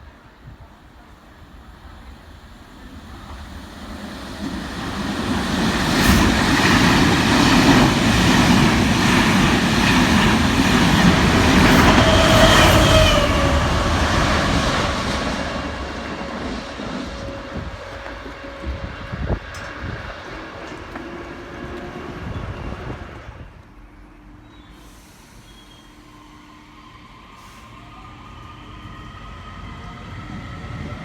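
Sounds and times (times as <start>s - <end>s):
train passing with rail noise: 0.0s - 31.0s.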